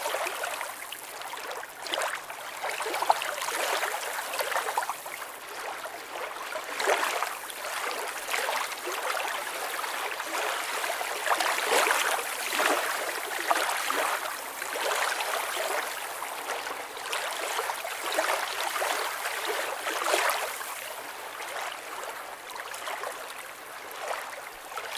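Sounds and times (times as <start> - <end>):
lake water lapping and splashing: 0.0 - 24.9.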